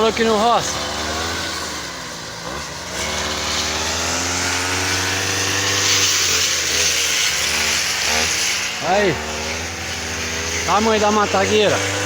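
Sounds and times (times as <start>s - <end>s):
brush cutter engine running: 0.0s - 12.0s.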